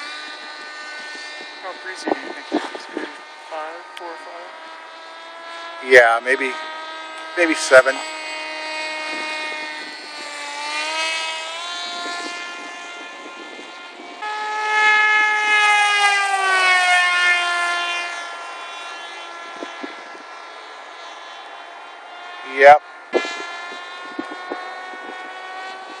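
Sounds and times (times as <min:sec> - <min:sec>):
model plane motor whine: 0:00.0 - 0:26.0.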